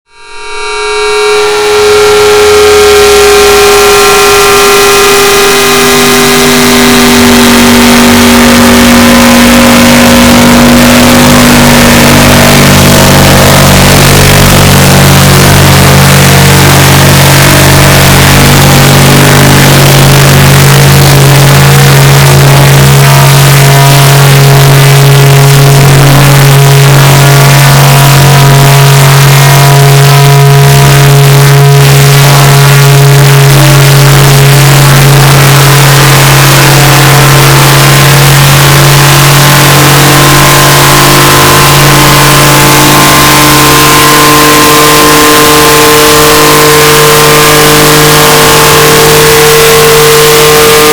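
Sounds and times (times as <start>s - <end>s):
distorted stretched voice drone: 0.0s - 50.9s.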